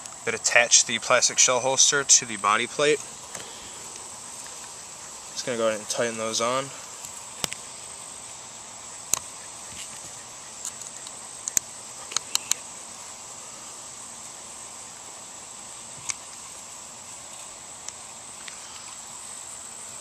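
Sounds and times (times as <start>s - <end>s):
steady high-pitched whine: 0.0s - 20.0s.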